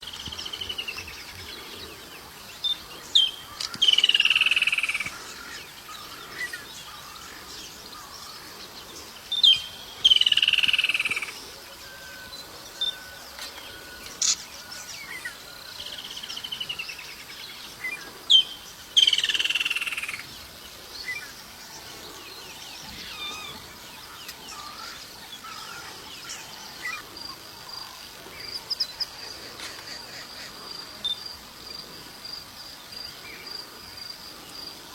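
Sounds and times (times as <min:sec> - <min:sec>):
faint high insect-like trill: 0:00.0 - 0:34.9.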